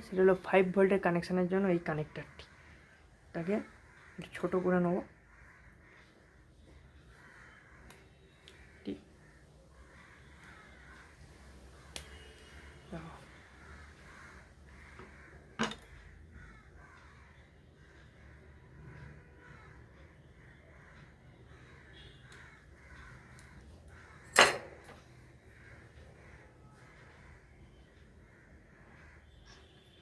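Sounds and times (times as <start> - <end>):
crows cawing: 2.3 - 29.8.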